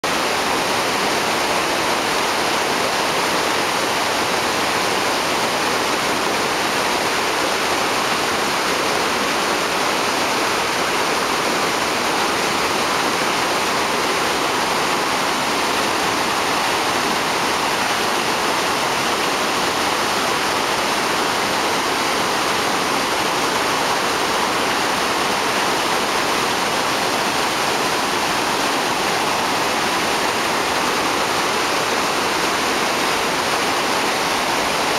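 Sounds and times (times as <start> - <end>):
stream rushing through rapids: 0.0 - 34.9.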